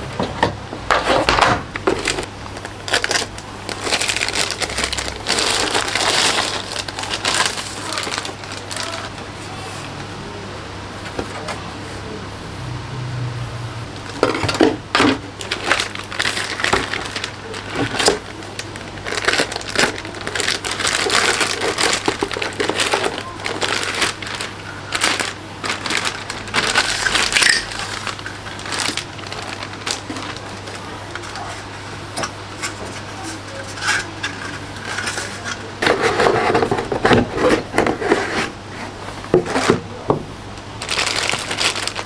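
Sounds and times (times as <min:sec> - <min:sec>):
plastic wrapping crinkling: 0:01.1 - 0:09.3, 0:14.0 - 0:38.2, 0:40.6 - 0:42.0.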